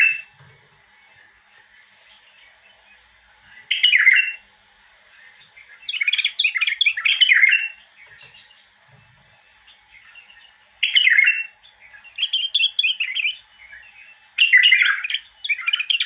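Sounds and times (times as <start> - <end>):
bird singing: 0.0 - 16.0.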